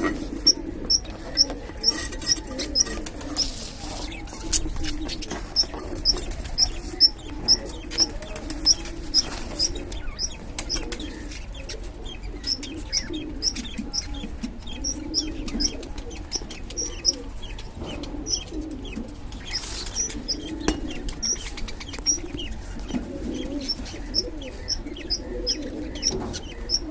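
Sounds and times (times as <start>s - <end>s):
low cooing warble: 0.0s - 11.2s, 12.0s - 19.3s, 20.0s - 26.9s
budgies chirping: 0.0s - 26.9s.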